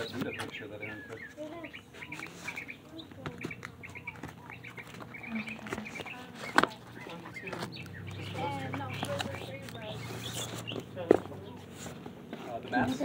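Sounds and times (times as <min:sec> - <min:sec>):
birds chirping: 0:00.0 - 0:13.0
books clicking and rustling: 0:02.1 - 0:12.7.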